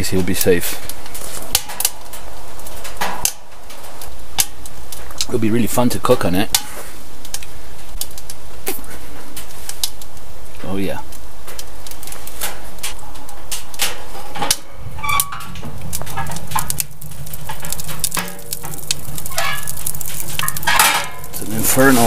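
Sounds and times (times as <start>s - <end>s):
rushing stove draft: 0.0s - 22.0s
wood fire crackling and popping: 0.0s - 22.0s.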